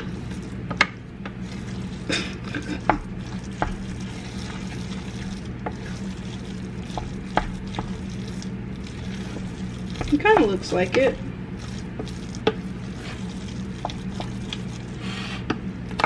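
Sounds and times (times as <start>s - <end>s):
food frying: 0.0s - 15.2s
wooden spoon scraping a pot: 0.0s - 15.5s.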